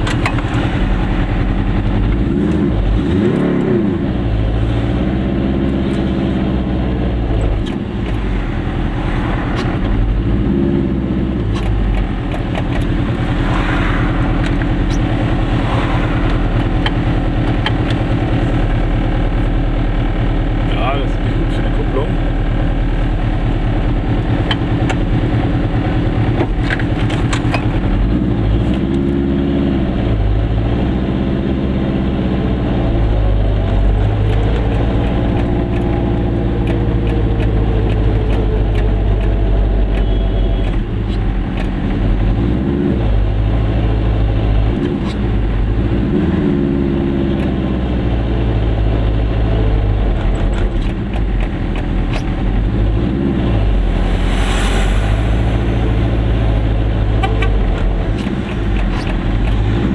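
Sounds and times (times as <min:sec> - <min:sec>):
two-stroke car engine: 0:00.0 - 0:59.9.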